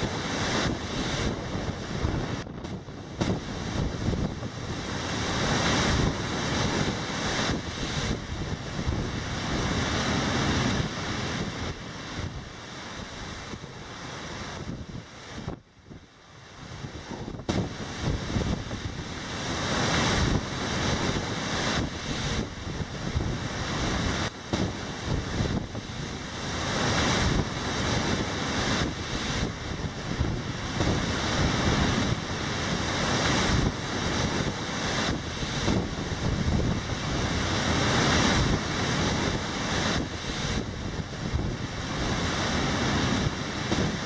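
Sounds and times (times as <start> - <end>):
surf crashing against sea wall: 0.0 - 44.0
wind buffeting microphone: 0.0 - 44.0.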